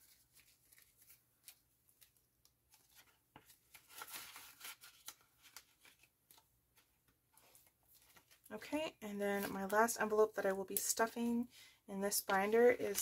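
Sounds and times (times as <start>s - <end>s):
banknotes and plastic crinkling: 0.0s - 11.5s, 12.1s - 13.0s.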